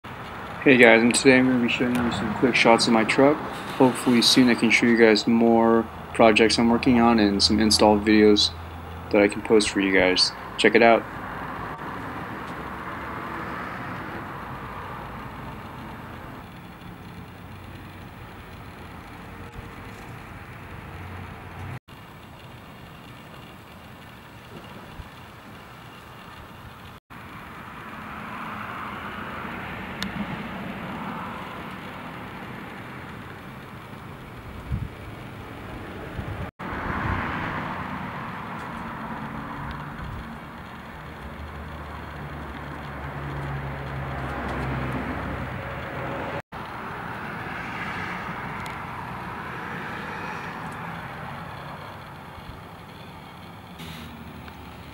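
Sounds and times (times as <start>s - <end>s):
truck engine running: 0.0s - 27.8s, 29.2s - 54.9s.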